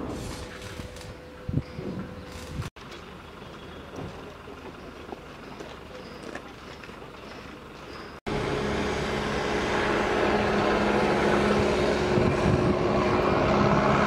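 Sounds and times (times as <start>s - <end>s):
diesel engine running: 0.4s - 14.0s.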